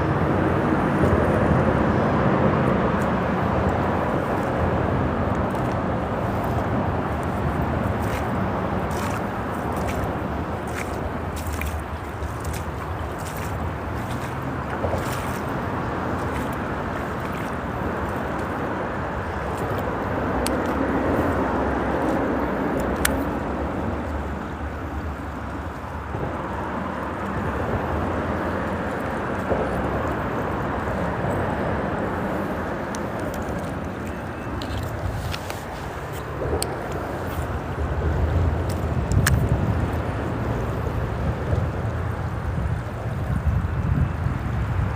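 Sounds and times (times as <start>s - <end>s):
freeway traffic rushing: 0.0s - 44.9s
stream running water: 0.0s - 44.9s.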